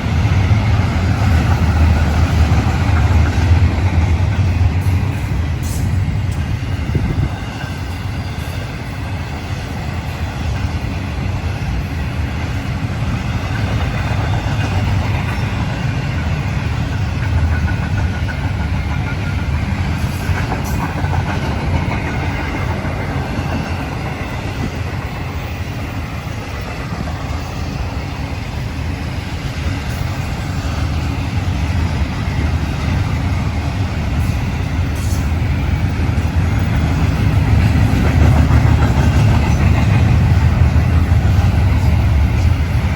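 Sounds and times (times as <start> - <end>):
train rolling past: 0.0 - 42.9
wheels clattering on rails: 0.0 - 42.9.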